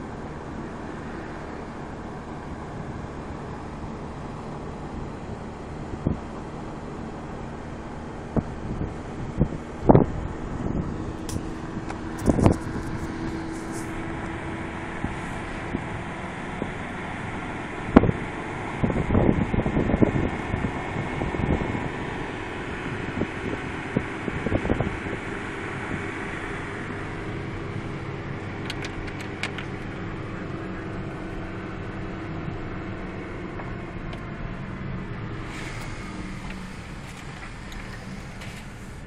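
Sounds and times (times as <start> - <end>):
car engine and tyres: 0.0 - 39.0
wind buffeting microphone: 5.0 - 39.0.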